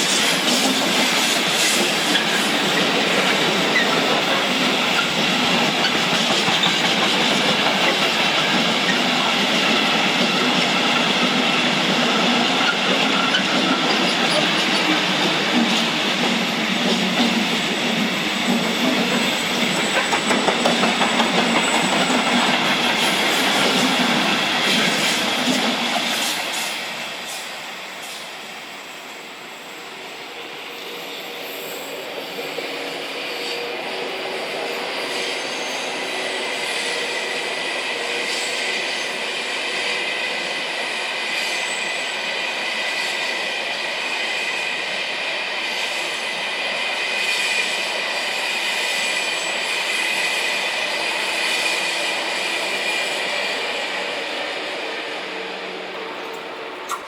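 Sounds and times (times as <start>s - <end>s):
train wheels squealing on rails: 0.0s - 57.0s.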